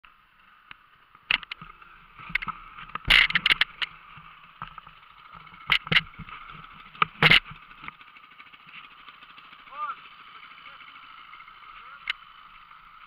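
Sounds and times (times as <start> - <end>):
dirt bike engine low revs: 0.1 - 13.0
sharp knocks and rattles: 0.4 - 13.0.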